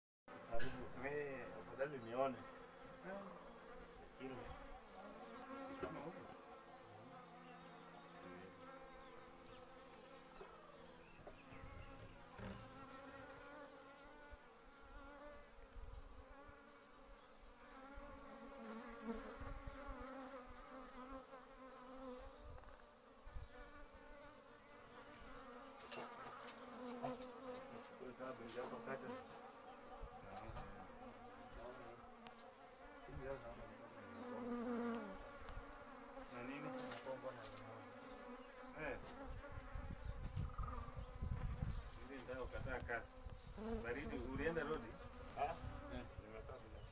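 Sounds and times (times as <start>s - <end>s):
bees buzzing: 0.3s - 46.9s.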